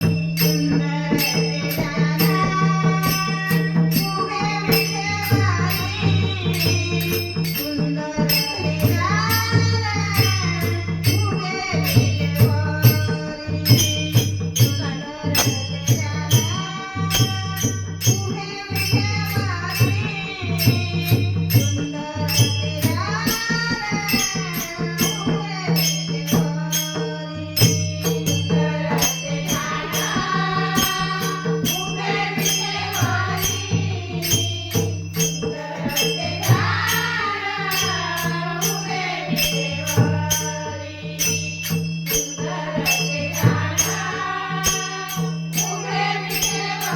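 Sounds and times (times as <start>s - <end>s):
hand drum: 0.0s - 46.9s
jingling hand percussion: 0.0s - 46.9s
woman singing devotional melody: 0.0s - 46.9s.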